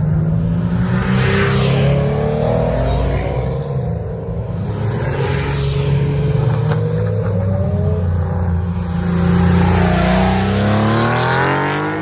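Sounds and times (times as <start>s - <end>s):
car engine accelerating past: 0.6s - 12.0s.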